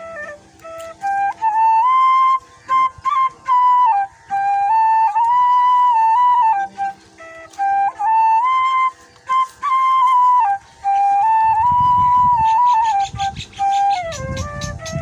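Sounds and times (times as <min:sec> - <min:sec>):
bamboo flute ringtone melody: 0:00.0 - 0:15.0.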